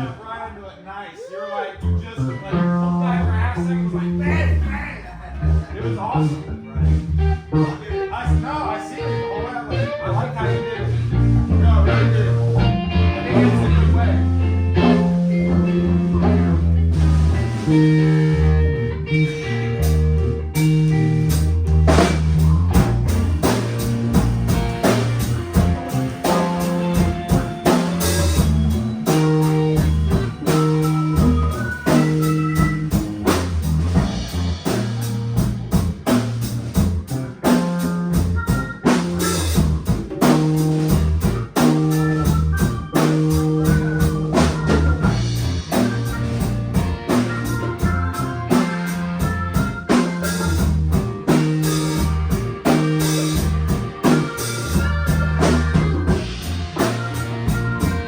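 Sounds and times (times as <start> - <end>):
guitar: 0.0 - 58.0
bass line: 1.8 - 58.0
drum kit steady beat: 11.2 - 58.0.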